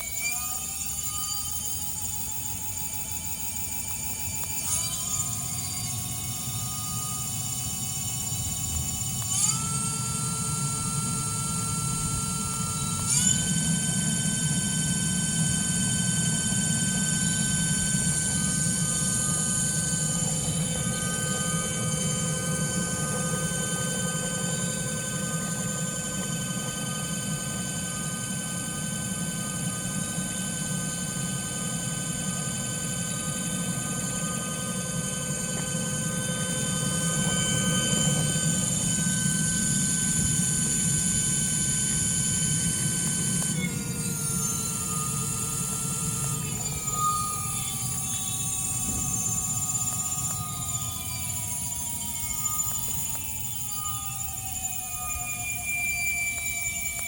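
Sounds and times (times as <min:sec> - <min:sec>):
electric motor humming and whining: 0:00.0 - 0:57.0.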